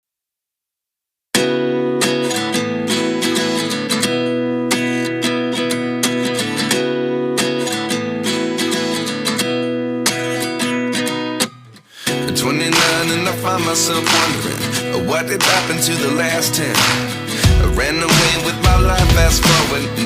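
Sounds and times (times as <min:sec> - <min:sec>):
strummed acoustic guitar: 0:01.4 - 0:20.0.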